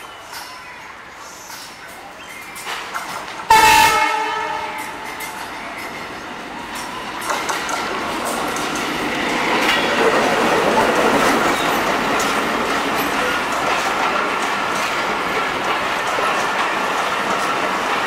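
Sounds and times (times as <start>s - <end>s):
diesel train passing: 0.0s - 18.0s
wheels clicking over rail joints: 1.5s - 18.0s.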